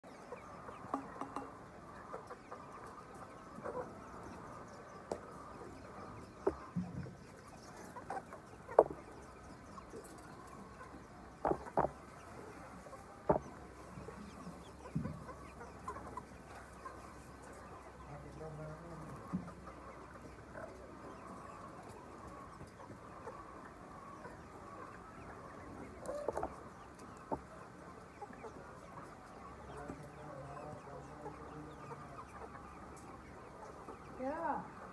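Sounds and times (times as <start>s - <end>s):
chickens clucking: 0.0s - 34.9s
murmur of flock: 0.0s - 34.9s.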